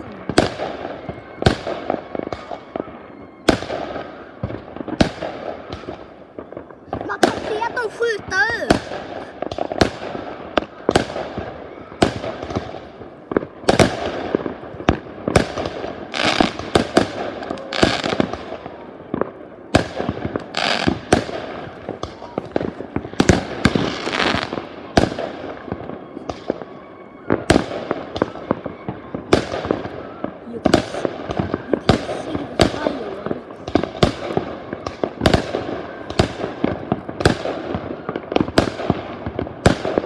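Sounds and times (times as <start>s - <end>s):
fireworks bangs: 0.0s - 40.0s
fireworks crackle: 0.0s - 40.0s.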